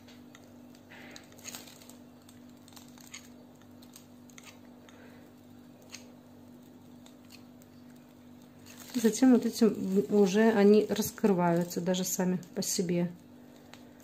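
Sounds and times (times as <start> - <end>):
piping bag squishing: 0.2 - 14.0.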